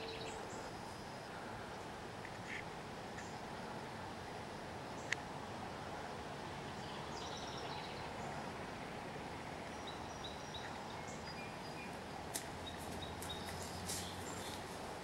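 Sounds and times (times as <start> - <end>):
rural outdoor background noise: 0.0 - 15.0.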